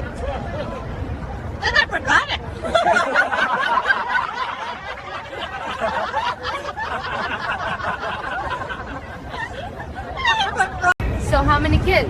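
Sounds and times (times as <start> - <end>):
people chuckling: 0.0 - 11.0.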